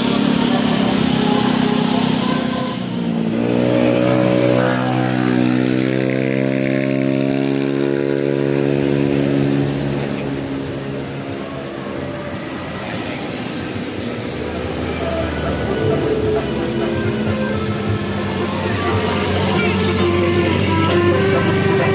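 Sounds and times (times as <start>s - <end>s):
vehicle engine revving: 0.0s - 21.9s.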